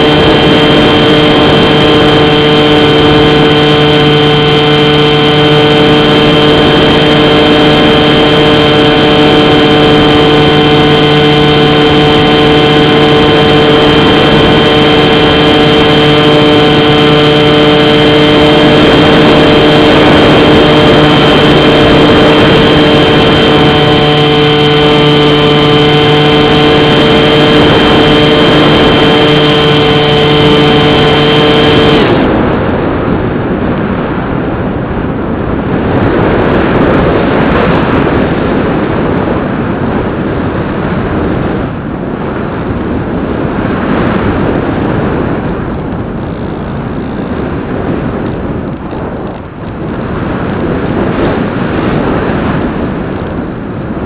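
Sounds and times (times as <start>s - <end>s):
electric motor and propeller whine: 0.0s - 54.0s
wind rushing over microphone: 0.0s - 54.0s.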